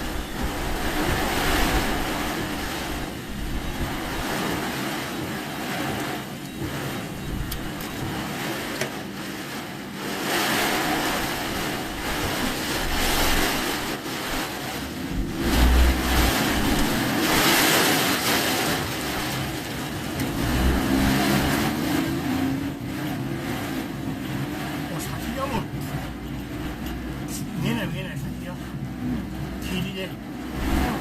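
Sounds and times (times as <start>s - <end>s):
car engine and tyre noise: 0.0s - 31.0s
hiss of water and rain: 0.0s - 31.0s.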